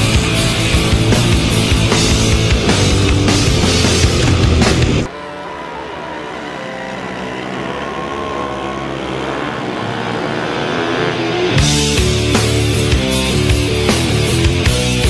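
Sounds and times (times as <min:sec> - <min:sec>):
minibike engine running: 0:00.0 - 0:14.8
heavy metal music: 0:00.0 - 0:15.0.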